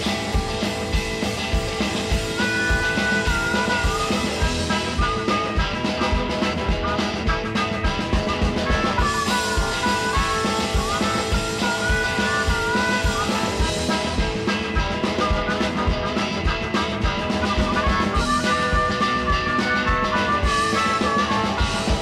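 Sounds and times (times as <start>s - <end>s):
melodic sliding guitar line: 0.0s - 22.0s
rock music: 0.0s - 22.0s.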